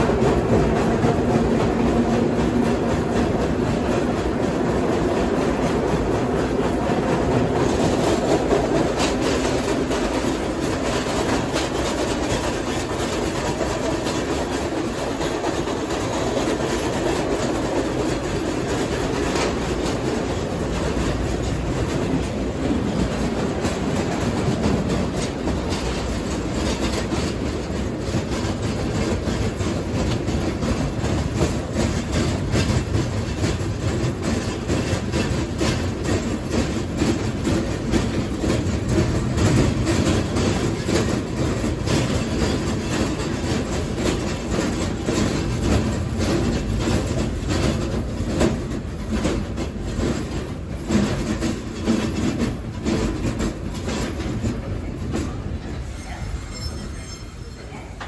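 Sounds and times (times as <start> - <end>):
wheels clicking over rail joints: 0.0 - 55.9
subway train wheels rumbling on rails: 0.0 - 58.0.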